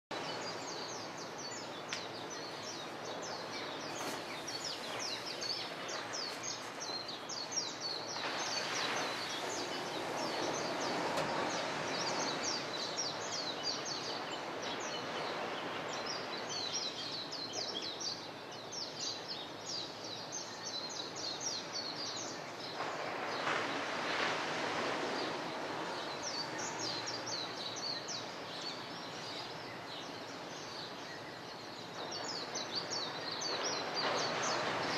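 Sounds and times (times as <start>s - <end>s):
small birds chirping: 0.1s - 34.9s
steady rushing wash: 0.1s - 34.9s.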